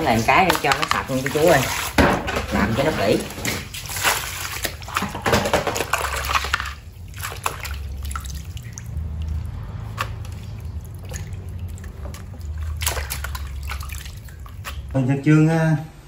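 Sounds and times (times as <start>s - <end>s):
water dripping: 0.0s - 15.0s
water sloshing and splashing: 0.0s - 15.1s.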